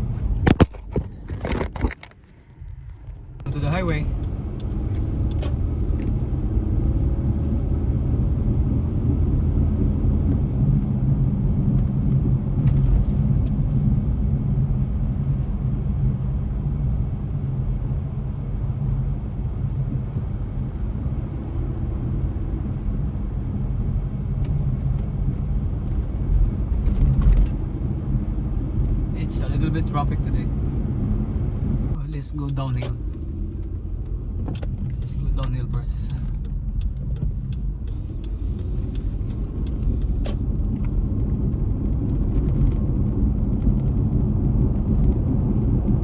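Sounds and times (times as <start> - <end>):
car engine and tyre noise inside cabin: 0.0 - 46.0.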